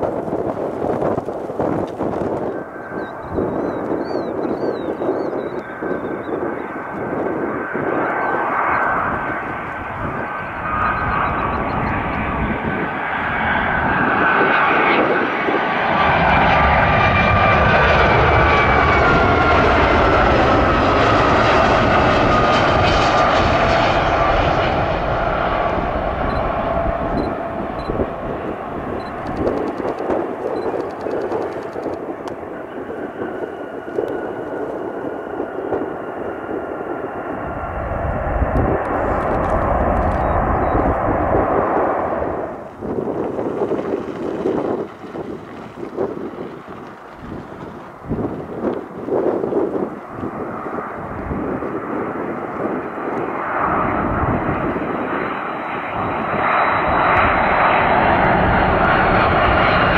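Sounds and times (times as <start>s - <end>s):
jet engine whine and rush: 0.0s - 59.9s.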